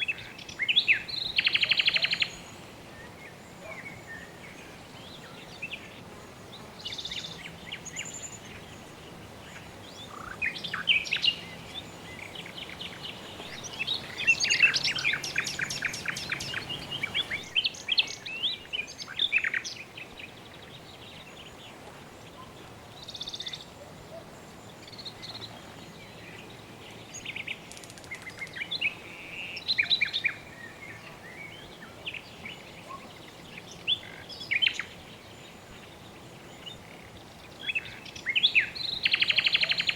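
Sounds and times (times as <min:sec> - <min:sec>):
birds chirping: 0:00.0 - 0:39.9
steady background hiss: 0:00.0 - 0:39.9.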